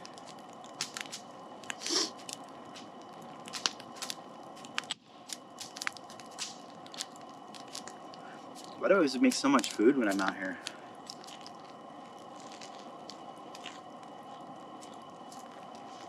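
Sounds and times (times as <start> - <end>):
campfire crackling and popping: 0.0 - 16.0
crunching bites and chewing: 0.0 - 16.0.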